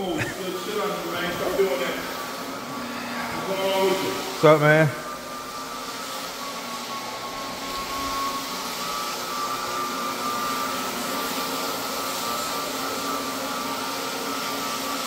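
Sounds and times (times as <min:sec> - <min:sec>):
electric motor whining: 0:00.2 - 0:14.9.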